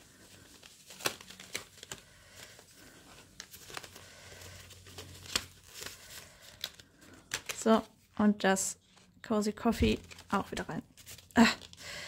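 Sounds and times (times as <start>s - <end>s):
paper rustling and crinkling: 0.0s - 11.8s.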